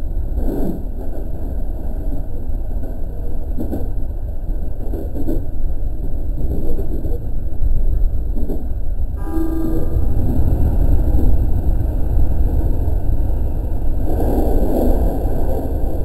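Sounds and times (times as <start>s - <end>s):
electric train rumbling on track: 0.0s - 16.0s.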